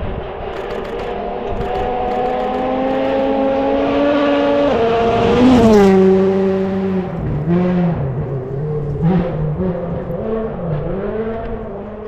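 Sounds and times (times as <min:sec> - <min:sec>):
rally car engine passing: 0:00.1 - 0:12.0.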